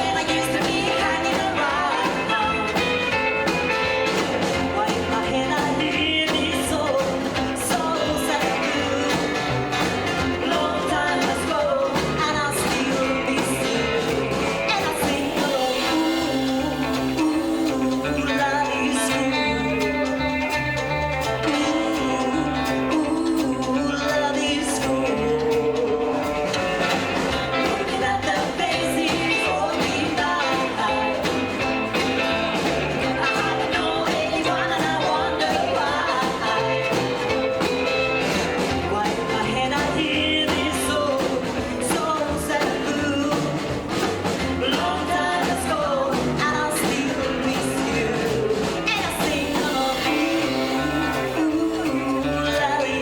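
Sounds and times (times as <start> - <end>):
guitar: 0.0 - 53.0
person singing: 0.0 - 53.0
rockabilly band playing: 0.0 - 53.0
walking bass line: 0.0 - 53.0.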